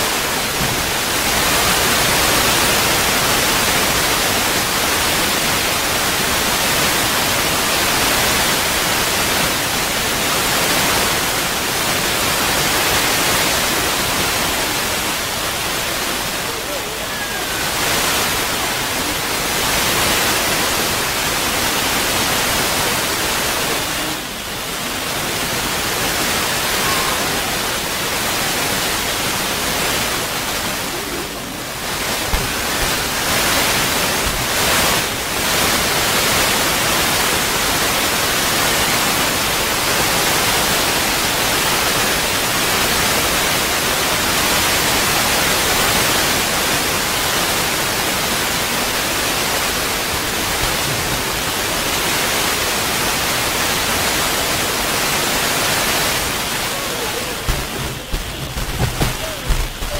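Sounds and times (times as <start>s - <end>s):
steady loud hiss: 0.0s - 59.9s.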